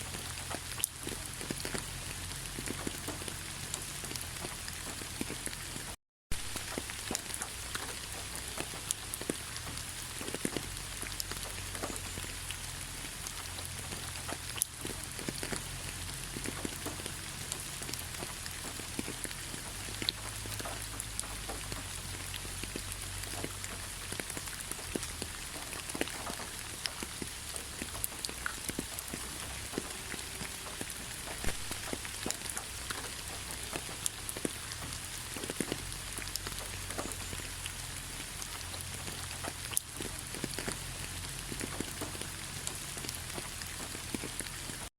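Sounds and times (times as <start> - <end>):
rain drops ticking on surface: 0.0 - 44.9.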